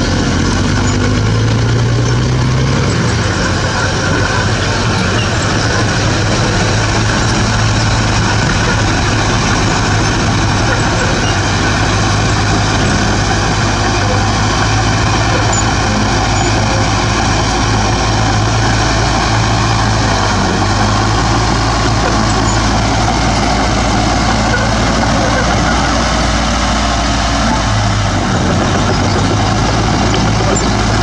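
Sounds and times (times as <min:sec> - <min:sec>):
diesel engine droning under load: 0:00.0 - 0:31.0.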